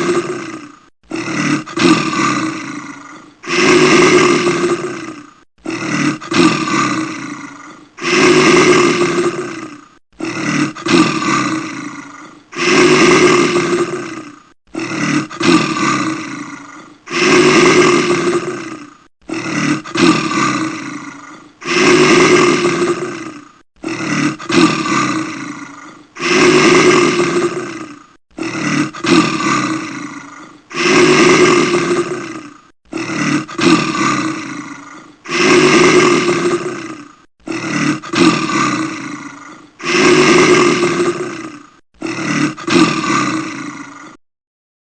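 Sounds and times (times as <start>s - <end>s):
person snoring loudly: 0.0s - 44.2s.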